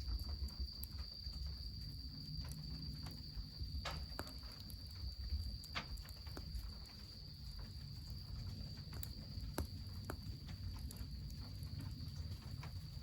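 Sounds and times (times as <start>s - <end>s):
cricket trilling: 0.0s - 13.0s
wood fire crackling: 0.0s - 13.0s.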